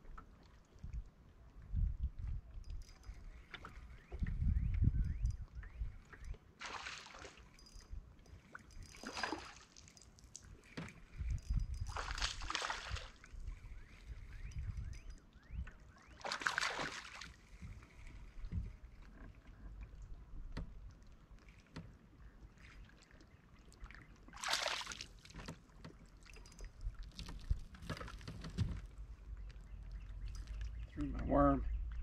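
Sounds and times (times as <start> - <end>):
low rumble of water and wind: 0.0 - 32.0
water splashing around boat: 0.0 - 32.0.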